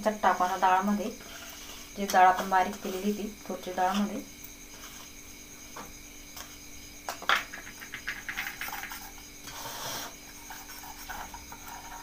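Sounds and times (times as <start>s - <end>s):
high-pitched background hum: 0.0s - 12.0s.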